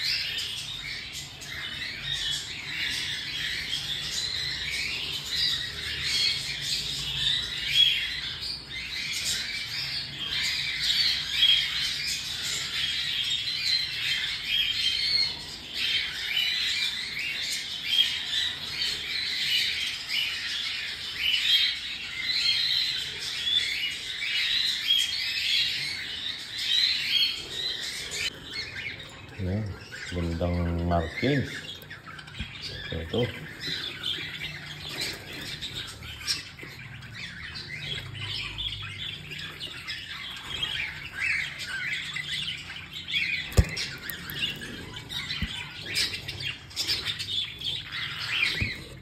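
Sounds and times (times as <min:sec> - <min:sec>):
cockatiels squawking and chirping: 0:00.0 - 0:49.0.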